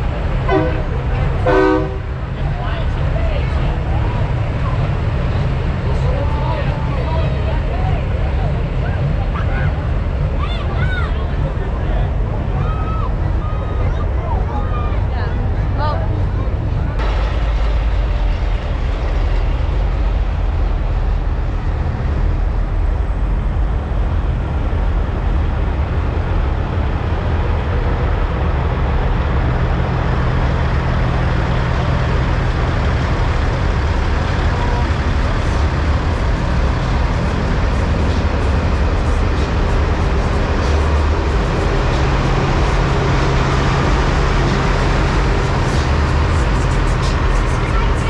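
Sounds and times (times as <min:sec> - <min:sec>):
truck diesel engines rumbling: 0:00.0 - 0:48.0.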